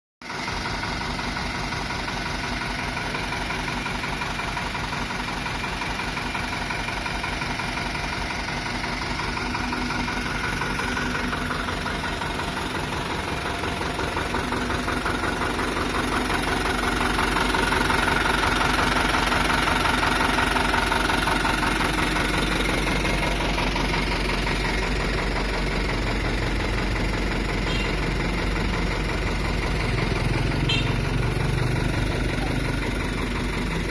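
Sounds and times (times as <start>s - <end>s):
diesel truck engine idling: 0.2s - 33.9s.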